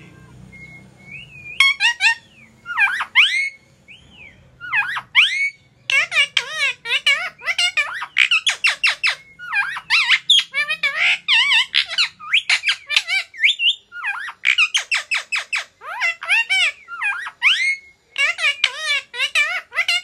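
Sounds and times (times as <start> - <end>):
parakeet squeaky calls: 0.0 - 20.0.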